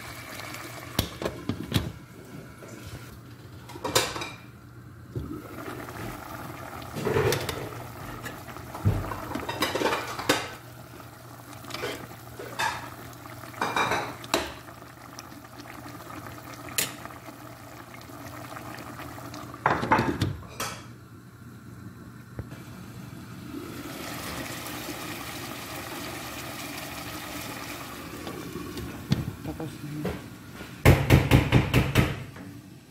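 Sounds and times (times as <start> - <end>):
stew simmering hiss: 0.0 - 3.2, 5.0 - 20.8, 22.4 - 30.8.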